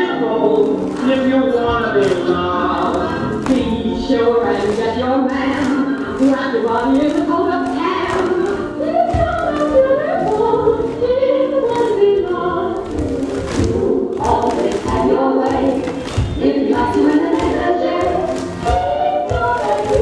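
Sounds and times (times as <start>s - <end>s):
group of voices singing: 0.0s - 20.0s.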